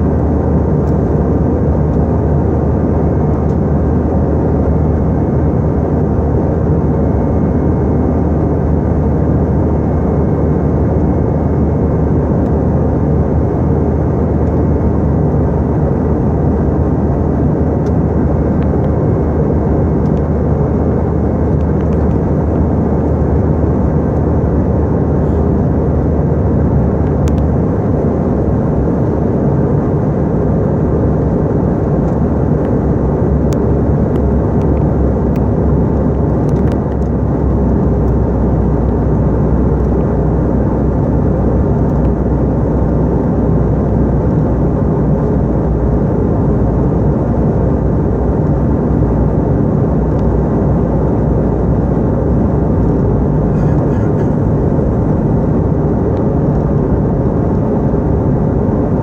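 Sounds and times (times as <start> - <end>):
airliner cabin roar: 0.0 - 59.0
low hum: 0.0 - 59.0.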